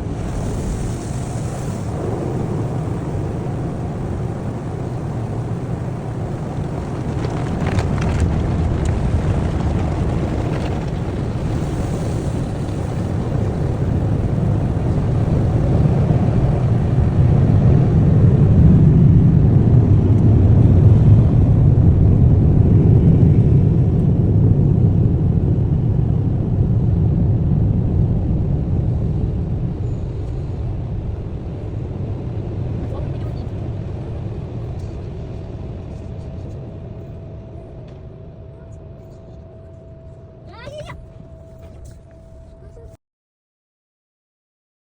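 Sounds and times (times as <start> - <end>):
car wash equipment rumbling: 0.0 - 38.0.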